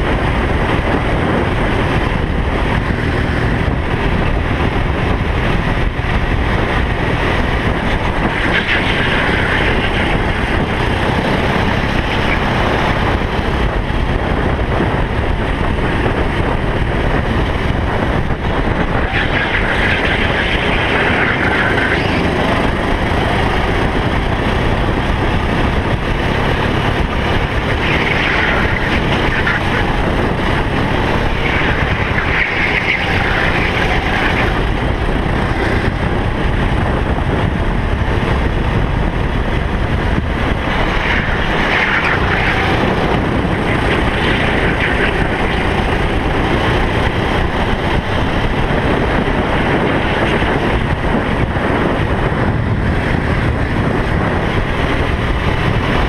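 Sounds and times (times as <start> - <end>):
kart engine running hard: 0.0 - 56.0
rush of air: 0.0 - 56.0.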